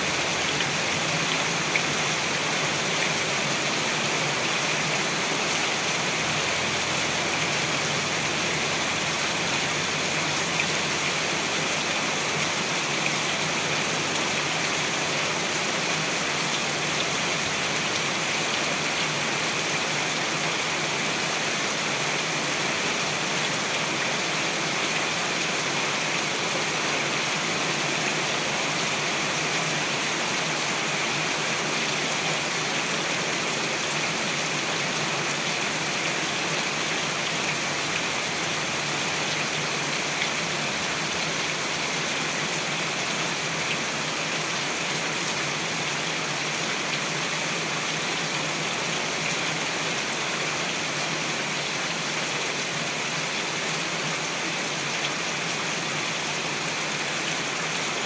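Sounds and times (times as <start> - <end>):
heavy rain on leaves: 0.0 - 58.0.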